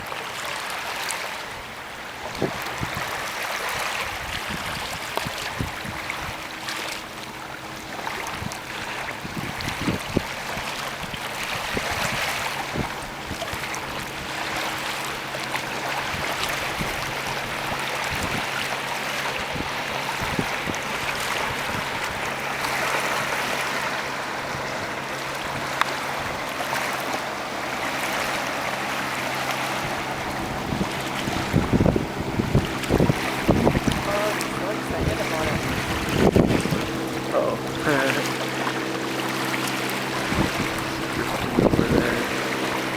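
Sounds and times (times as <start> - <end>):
water rushing along boat hull: 0.0 - 42.9
wind: 0.0 - 42.9.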